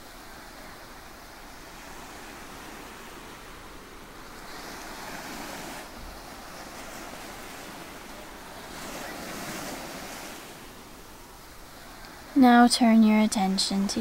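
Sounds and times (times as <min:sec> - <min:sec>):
waves breaking on shore: 0:00.0 - 0:14.0.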